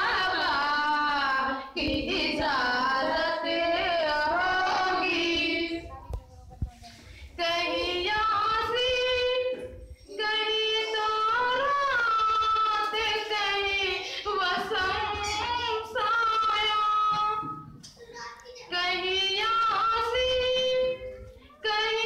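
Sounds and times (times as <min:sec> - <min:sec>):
girl singing into a microphone: 0:00.0 - 0:17.6, 0:18.5 - 0:22.0.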